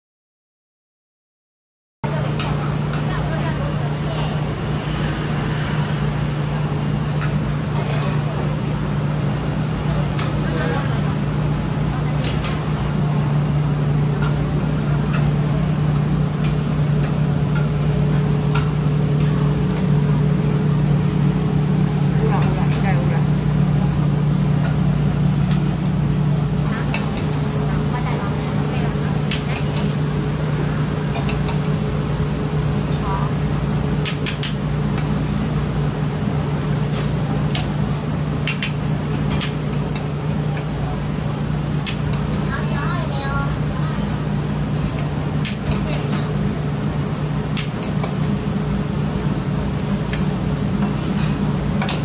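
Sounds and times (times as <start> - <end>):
low machine hum: 2.0 - 52.0.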